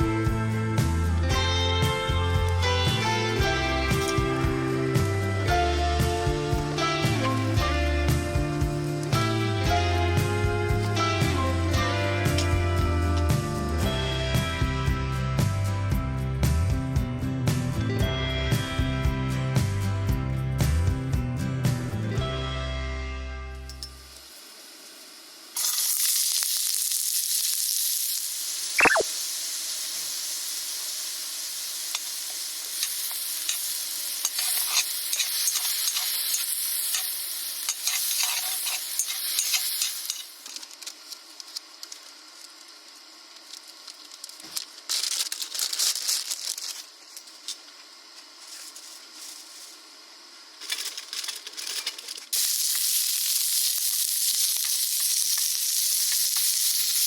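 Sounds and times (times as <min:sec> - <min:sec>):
food sizzling in a hot pan: 0:00.0 - 0:16.6, 0:23.6 - 0:51.2, 0:51.9 - 0:57.0.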